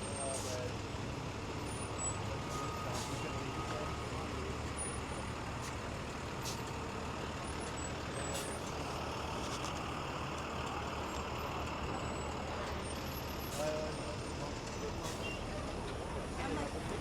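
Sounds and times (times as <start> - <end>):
heavy vehicle engines: 0.0 - 17.0
traffic rumble: 0.0 - 17.0.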